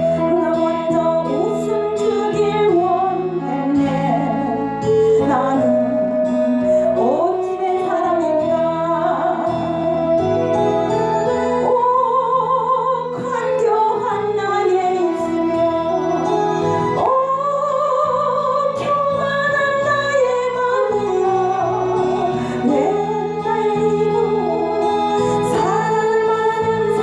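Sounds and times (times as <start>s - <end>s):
instrumental accompaniment: 0.0s - 27.0s
woman singing: 0.0s - 27.0s.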